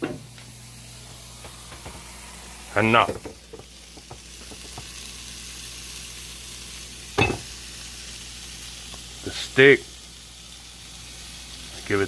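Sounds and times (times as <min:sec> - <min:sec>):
steak sizzling: 0:00.0 - 0:12.0.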